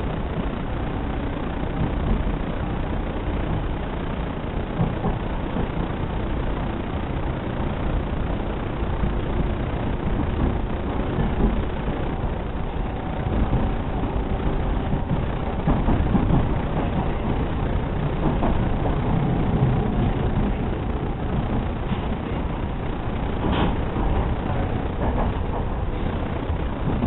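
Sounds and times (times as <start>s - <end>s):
faint steady tones: 0.0s - 27.0s
train wheels rumbling on rail: 0.0s - 27.0s.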